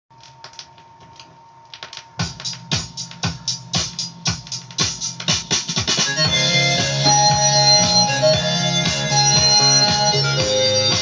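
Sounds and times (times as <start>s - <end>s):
drum beat from vinyl record: 0.3s - 11.0s.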